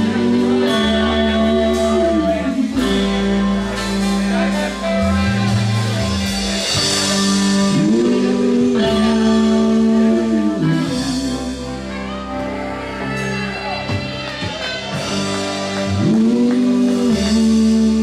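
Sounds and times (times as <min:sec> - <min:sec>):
bass guitar: 0:00.0 - 0:18.0
drums: 0:00.0 - 0:18.0
electric guitars: 0:00.0 - 0:18.0
saxophone: 0:00.0 - 0:18.0.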